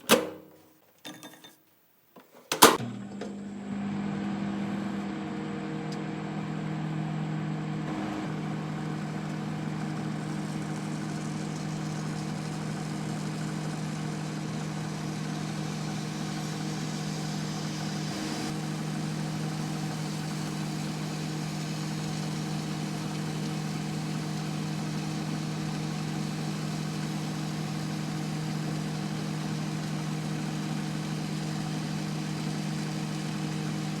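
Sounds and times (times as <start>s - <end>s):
microwave oven humming: 0.0s - 1.2s, 2.5s - 34.0s.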